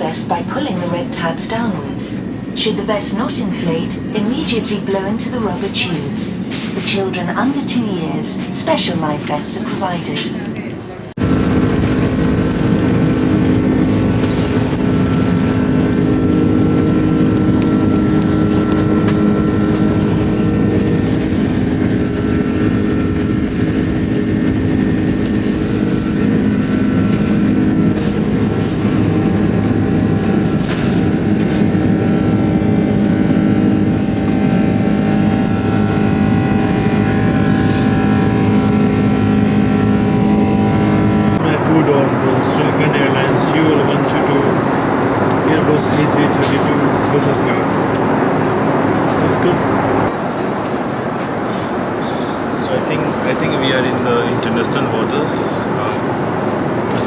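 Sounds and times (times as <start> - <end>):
jet engines roaring in cabin: 0.0 - 57.0.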